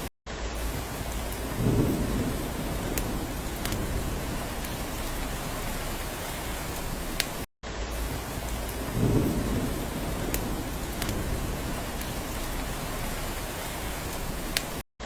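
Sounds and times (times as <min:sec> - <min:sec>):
rain on a roof: 0:00.0 - 0:14.8
sharp raindrops: 0:00.0 - 0:14.8
low rumble of thunder: 0:00.6 - 0:07.1, 0:07.9 - 0:14.6.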